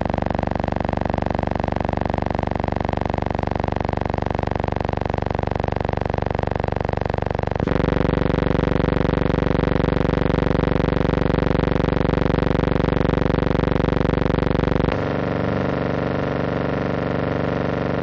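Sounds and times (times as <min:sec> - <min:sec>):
fluttering electrical hum: 0:00.0 - 0:18.0.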